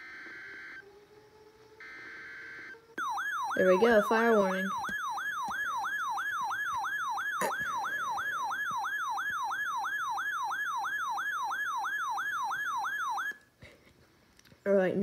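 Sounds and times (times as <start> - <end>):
electronic alarm siren wailing: 0.0 - 13.4.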